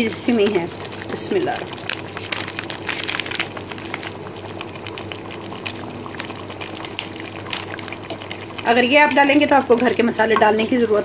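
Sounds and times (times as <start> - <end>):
gravy bubbling in a pot: 0.0 - 11.0.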